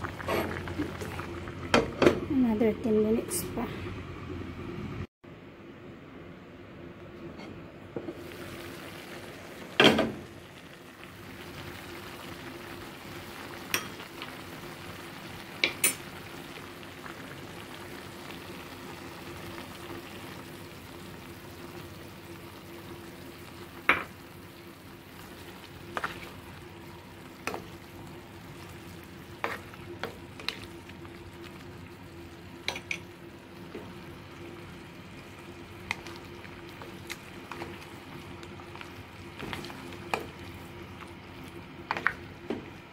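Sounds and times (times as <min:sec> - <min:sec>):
food sizzling in a clay pot: 0:08.1 - 0:42.9.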